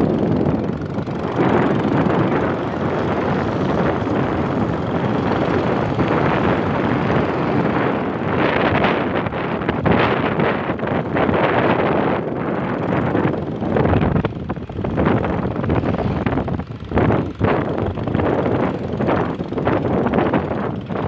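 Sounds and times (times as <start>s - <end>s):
motorbike passing: 0.0s - 21.0s
vehicle running noise: 0.0s - 21.0s
wind buffeting microphone: 0.0s - 21.0s.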